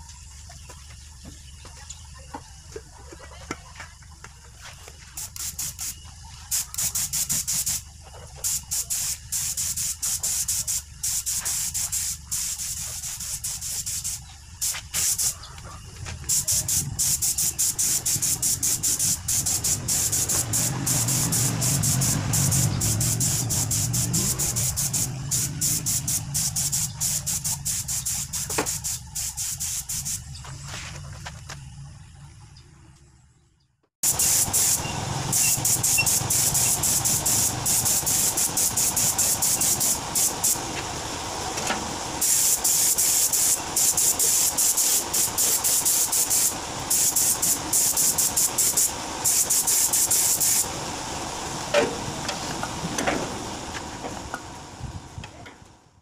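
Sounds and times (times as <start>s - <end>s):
paint spray gun hissing: 5.1s - 15.6s, 16.2s - 30.4s, 34.0s - 54.8s.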